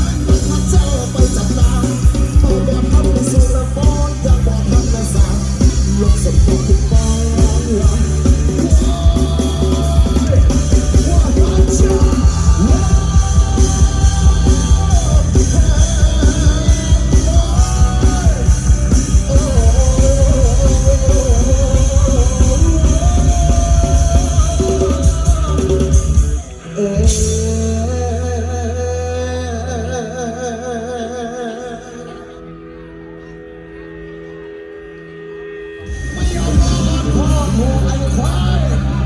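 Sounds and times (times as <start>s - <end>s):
rock band playing: 0.0s - 30.0s, 32.0s - 39.0s
singer's wavering voice: 0.0s - 39.0s.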